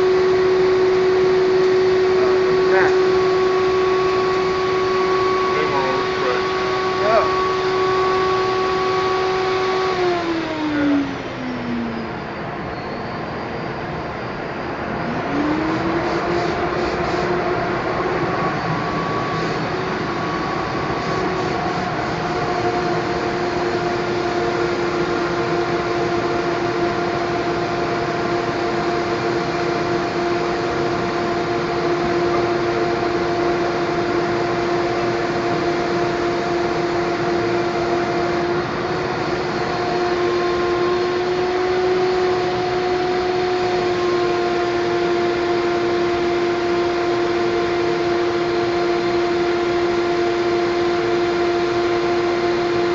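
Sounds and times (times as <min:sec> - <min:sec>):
steady hum: 0:00.0 - 0:52.9.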